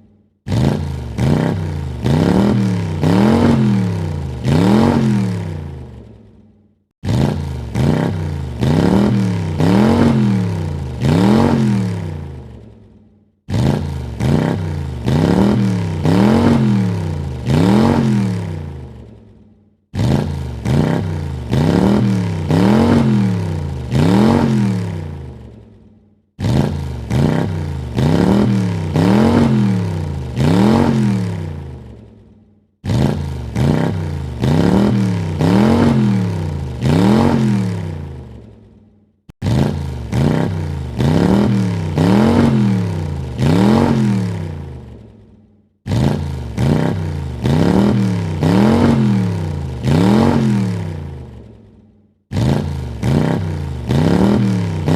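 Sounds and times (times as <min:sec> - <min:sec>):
car engine revving: 0:00.5 - 0:06.1, 0:07.0 - 0:12.8, 0:13.5 - 0:19.3, 0:19.9 - 0:25.6, 0:26.4 - 0:32.0, 0:32.8 - 0:38.6, 0:39.4 - 0:45.2, 0:45.9 - 0:51.5, 0:52.3 - 0:54.9.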